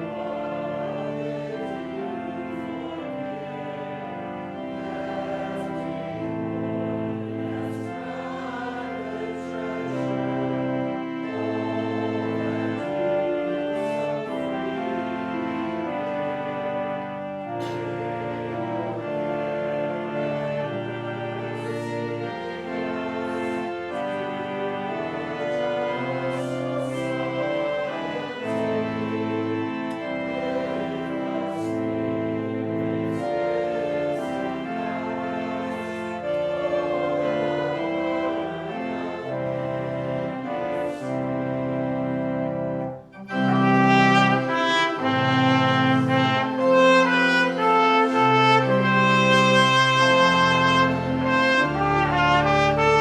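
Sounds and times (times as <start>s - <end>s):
organ playing sustained chords: 0.0s - 53.0s.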